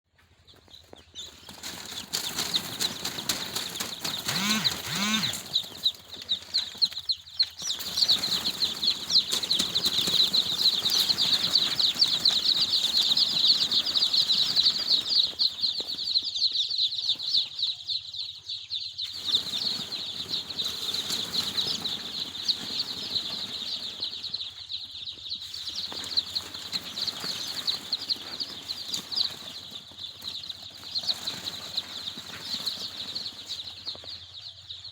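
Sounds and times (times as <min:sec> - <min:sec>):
chicks peeping: 0:00.2 - 0:34.9
low-pitched bird calls: 0:01.3 - 0:34.9.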